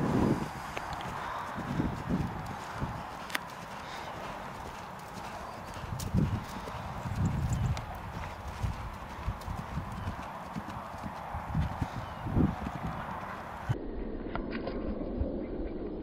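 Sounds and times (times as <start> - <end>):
horse hoofbeats on grass: 0.8 - 13.8.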